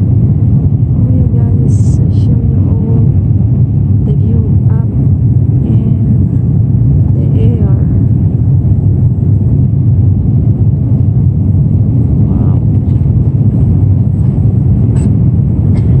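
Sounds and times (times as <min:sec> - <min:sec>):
airliner engine rumble: 0:00.0 - 0:16.0.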